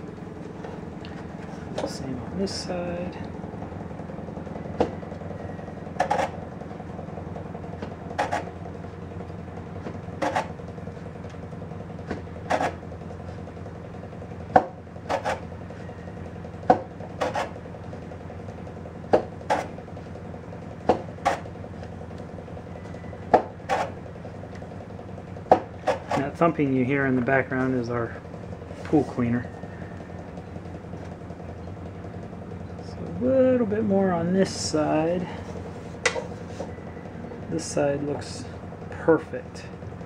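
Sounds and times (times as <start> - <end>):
pool cleaner low hum: 0.0 - 40.0.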